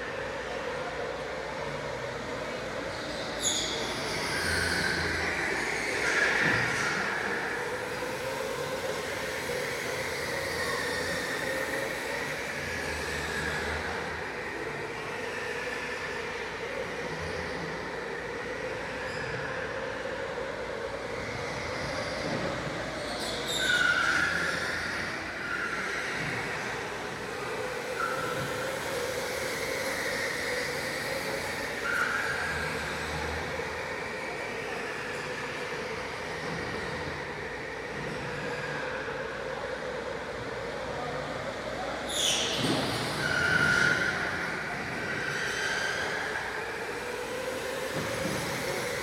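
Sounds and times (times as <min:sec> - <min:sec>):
electric go-kart motor whine: 0:00.0 - 0:49.0.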